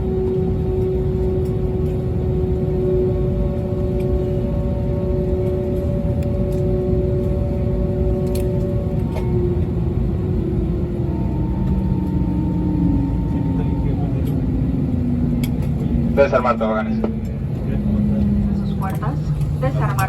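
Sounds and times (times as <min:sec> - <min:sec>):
aircraft cabin rumble: 0:00.0 - 0:20.0
jet engines winding down: 0:00.0 - 0:20.0.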